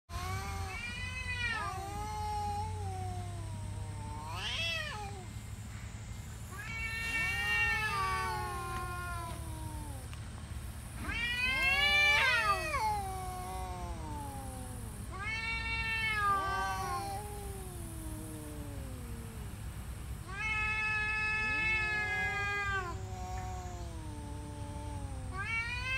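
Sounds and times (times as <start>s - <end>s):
cats yowling: 0.1s - 5.4s, 6.5s - 10.2s, 11.0s - 19.6s, 20.2s - 25.9s.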